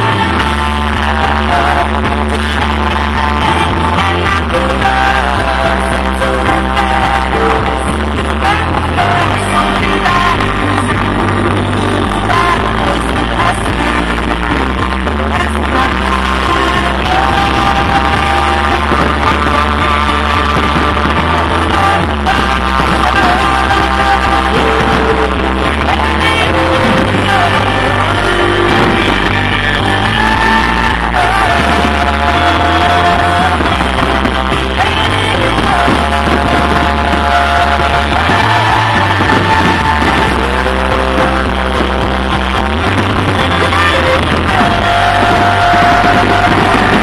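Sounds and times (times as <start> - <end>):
low bass line: 0.0 - 47.0
person singing melody: 0.0 - 47.0.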